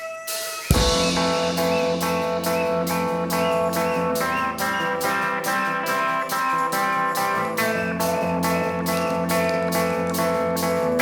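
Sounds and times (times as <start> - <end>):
rock band playing: 0.3 - 11.0.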